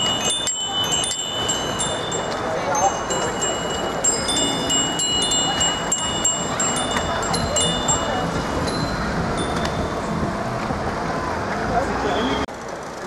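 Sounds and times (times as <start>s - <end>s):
bicycle bells ringing: 0.0s - 10.6s
street noise: 0.0s - 13.0s.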